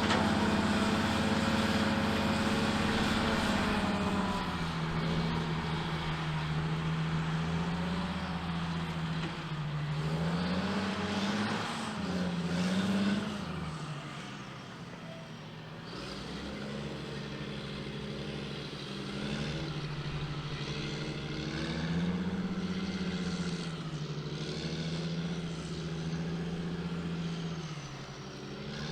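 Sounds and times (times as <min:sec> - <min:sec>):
diesel engines under load: 0:00.0 - 0:28.9.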